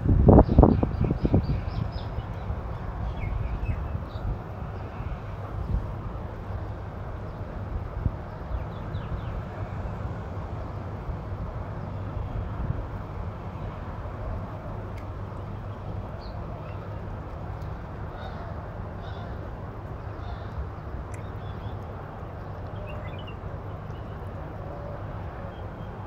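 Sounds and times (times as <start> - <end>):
low outdoor background rumble: 0.0 - 26.0.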